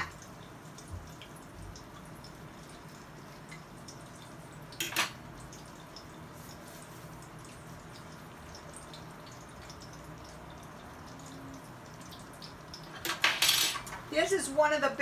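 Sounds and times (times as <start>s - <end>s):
bread sizzling in oil: 0.0s - 15.0s.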